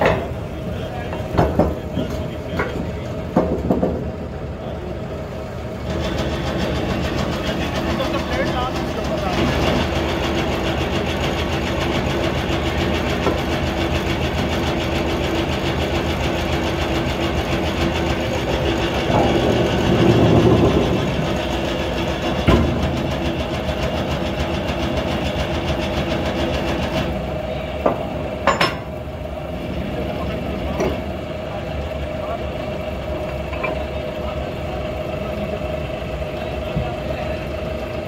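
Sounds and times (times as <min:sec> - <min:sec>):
hydraulic power unit running: 0:00.0 - 0:38.0.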